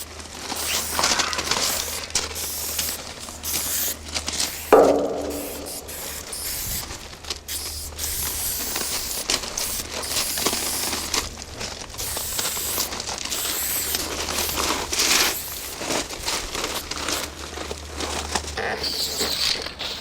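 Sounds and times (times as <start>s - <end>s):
spray paint can hissing: 0.0s - 6.9s, 7.5s - 11.3s, 12.0s - 17.3s, 18.8s - 20.0s
steady low hum: 0.0s - 18.0s
rustling and crackling: 0.0s - 19.3s.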